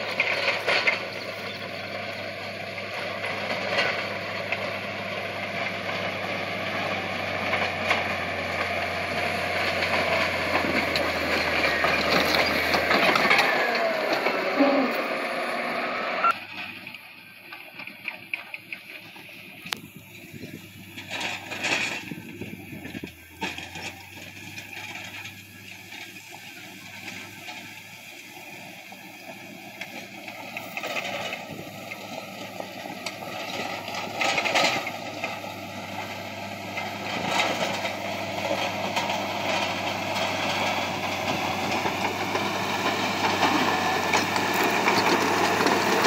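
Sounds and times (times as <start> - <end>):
blade scraping dirt road: 0.0 - 46.0
diesel engine under load: 0.0 - 46.0.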